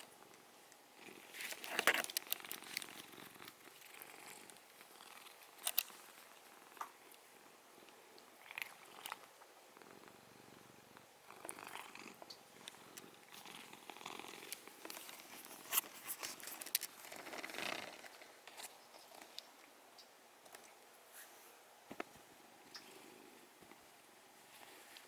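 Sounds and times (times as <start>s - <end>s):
cat purring: 0.1s - 19.6s, 22.6s - 25.0s.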